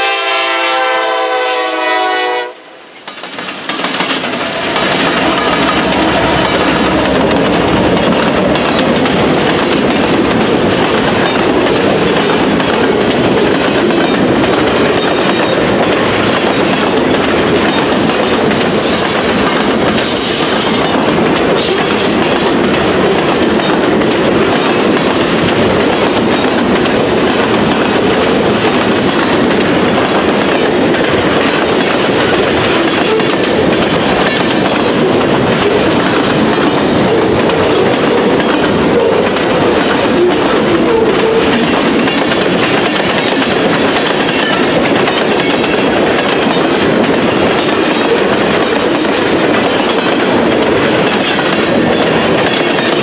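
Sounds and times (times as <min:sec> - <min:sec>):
train wheels rushing on rail: 0:00.0 - 0:53.0.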